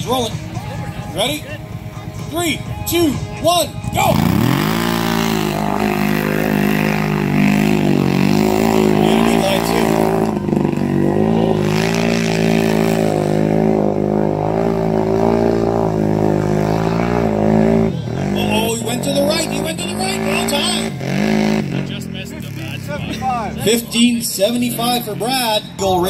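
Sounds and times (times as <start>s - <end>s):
atv engine at high revs: 2.9s - 26.0s.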